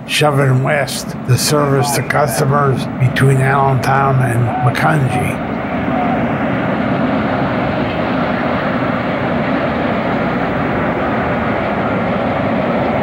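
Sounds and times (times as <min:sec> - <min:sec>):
diesel locomotive engine: 0:00.0 - 0:13.0
freight cars rumbling on rails: 0:00.0 - 0:13.0.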